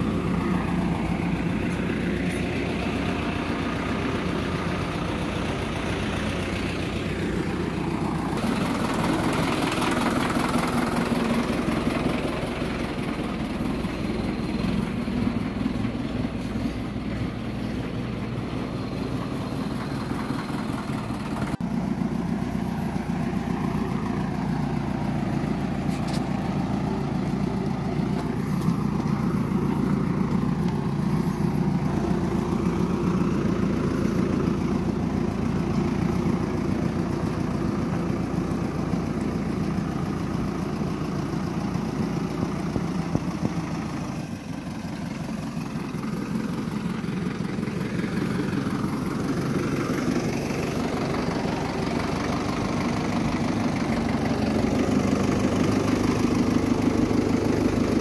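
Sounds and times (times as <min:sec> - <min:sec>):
engine droning steadily: 0:00.0 - 0:58.0.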